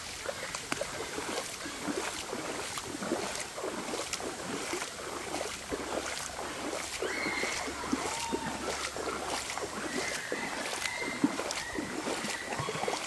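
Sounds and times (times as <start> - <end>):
river water babbling over rocks: 0.0 - 13.0.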